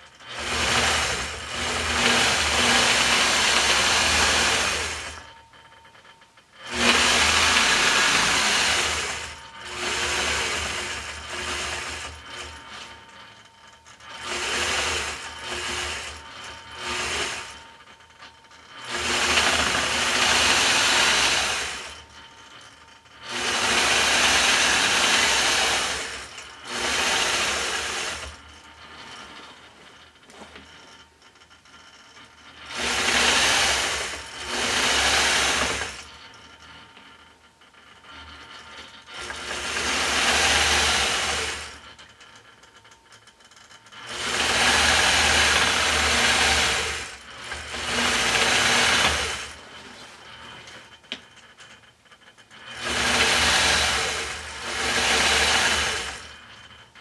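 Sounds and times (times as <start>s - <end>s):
quilting machine stitching: 0.0s - 51.8s, 52.5s - 57.0s.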